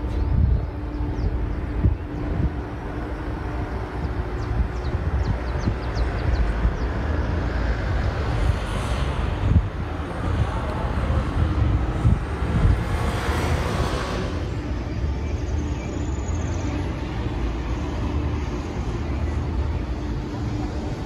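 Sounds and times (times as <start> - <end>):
road traffic rumble: 0.0 - 21.0
vehicles passing: 0.0 - 21.0.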